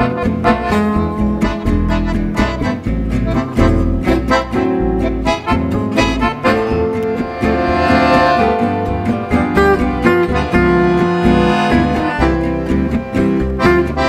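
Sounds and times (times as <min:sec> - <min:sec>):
accordion: 0:00.0 - 0:14.0
plucked double bass: 0:00.0 - 0:14.0
second guitar: 0:00.0 - 0:14.0
strummed rhythm guitar: 0:00.0 - 0:14.0.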